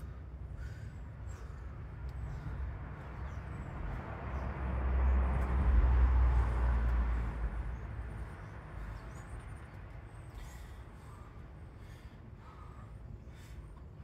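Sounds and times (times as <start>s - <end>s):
vehicle passing by: 0.0s - 12.3s.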